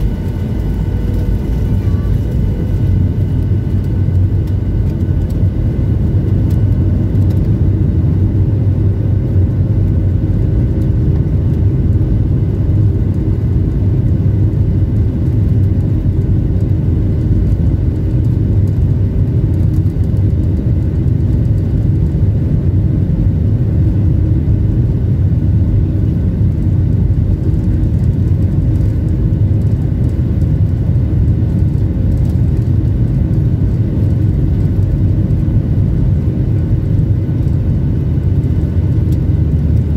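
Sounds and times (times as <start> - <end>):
airplane cabin rumble: 0.0 - 39.9
faint jet engine whine: 0.0 - 39.9.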